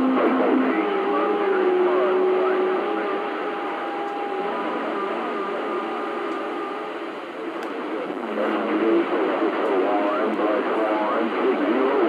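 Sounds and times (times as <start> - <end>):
faint garbled radio voices: 0.0 - 12.0
radio static hiss: 0.0 - 12.0.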